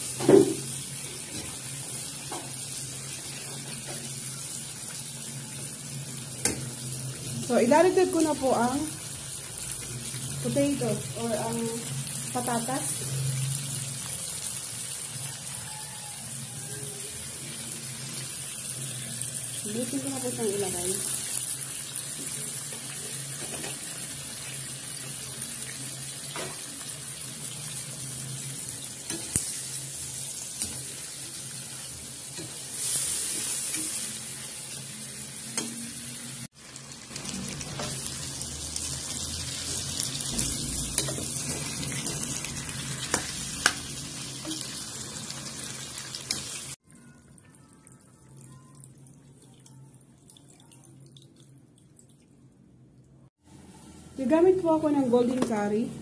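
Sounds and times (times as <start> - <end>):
food sizzling in a frying pan: 0.0 - 46.8.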